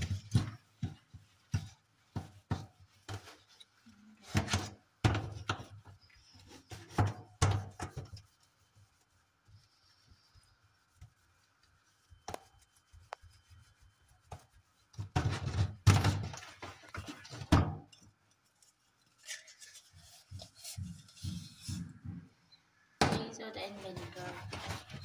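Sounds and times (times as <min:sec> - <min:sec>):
sponge scrubbing metal mesh filter: 0:00.0 - 0:21.9, 0:23.2 - 0:25.0.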